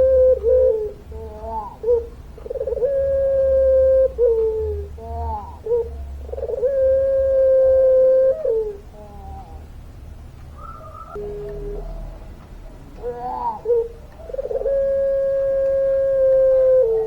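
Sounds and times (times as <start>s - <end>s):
dove calling: 0.0s - 17.0s
low steady hum: 0.0s - 17.0s.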